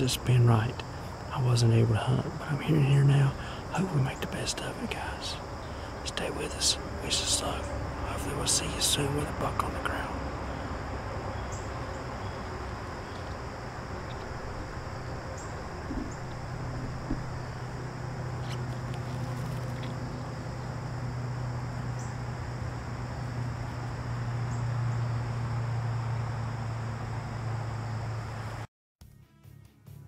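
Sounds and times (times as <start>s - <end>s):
insect drone: 0.0s - 28.7s
low steady hum: 0.0s - 28.7s.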